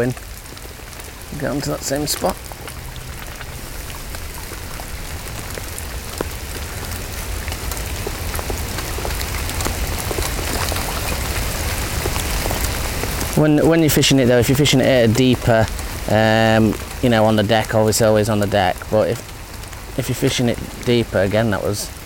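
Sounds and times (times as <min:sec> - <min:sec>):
rain falling on pond: 0:00.0 - 0:22.0
raindrops ticking on plastic bag: 0:00.0 - 0:22.0.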